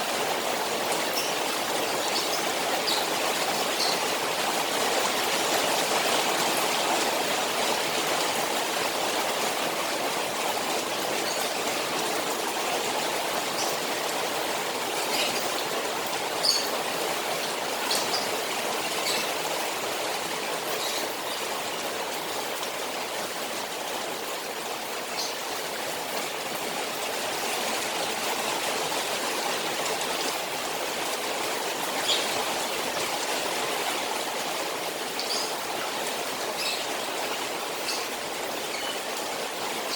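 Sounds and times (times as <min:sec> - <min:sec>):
rain on a pond: 0:00.0 - 0:39.9
running water: 0:00.0 - 0:39.9.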